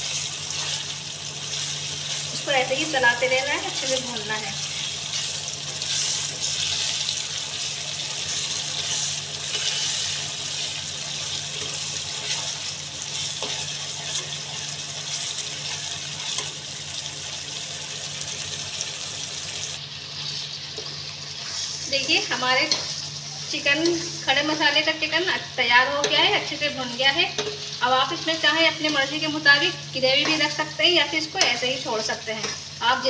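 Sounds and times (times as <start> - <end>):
meat sizzling in a pan: 0.0 - 33.0.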